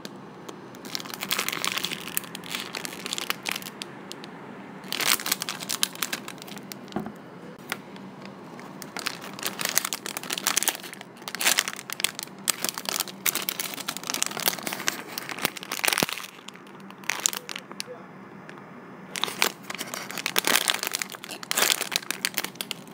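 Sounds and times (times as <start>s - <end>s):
plastic bags crinkling: 0.8s - 17.9s, 19.1s - 22.9s.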